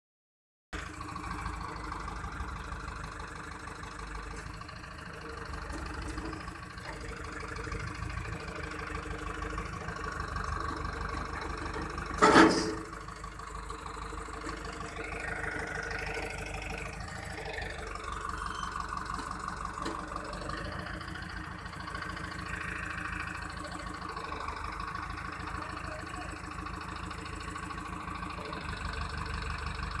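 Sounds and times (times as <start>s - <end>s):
crane engine running: 0.8s - 30.0s.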